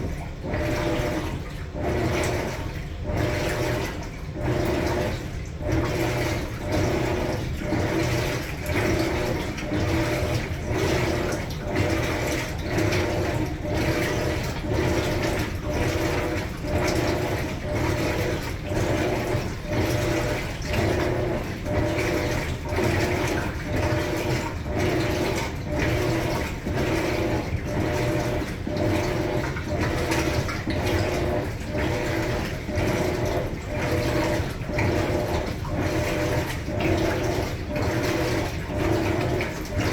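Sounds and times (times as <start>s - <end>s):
washing machine agitating: 0.0s - 39.9s
water and clothes sloshing: 0.0s - 39.9s.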